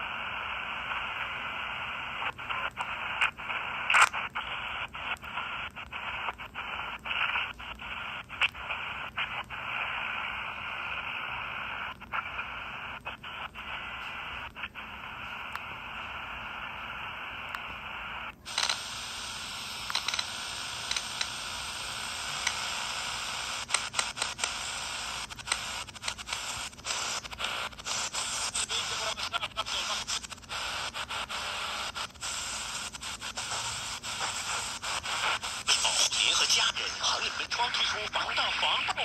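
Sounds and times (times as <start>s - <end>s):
radio static hiss with crackles: 0.0s - 39.0s.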